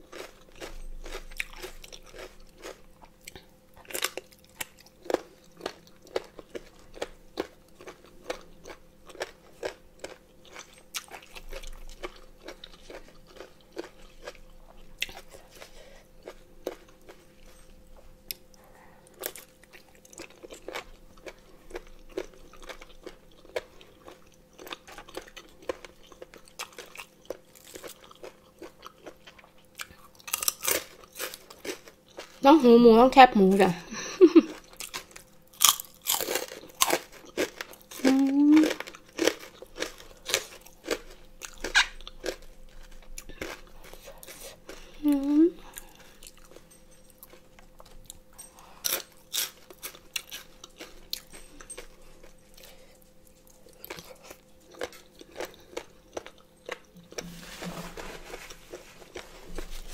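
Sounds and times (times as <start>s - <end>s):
chewing crunchy cartilage: 0.0s - 32.4s, 34.4s - 57.3s.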